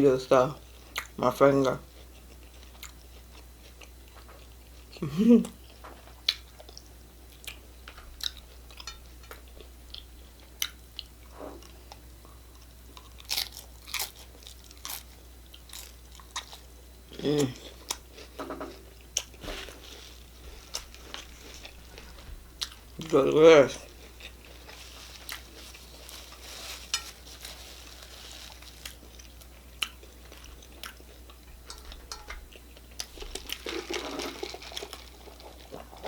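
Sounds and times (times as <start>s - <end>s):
crunchy tacos being chewed: 0.6s - 36.0s.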